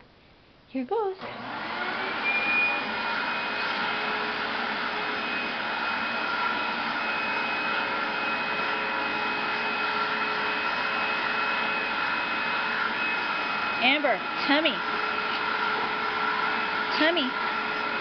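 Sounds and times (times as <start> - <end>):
vacuum cleaner running: 1.2 - 18.0.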